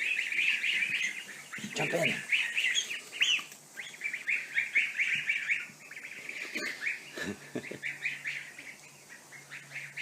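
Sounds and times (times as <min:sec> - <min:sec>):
ducklings peeping: 0:00.0 - 0:10.0.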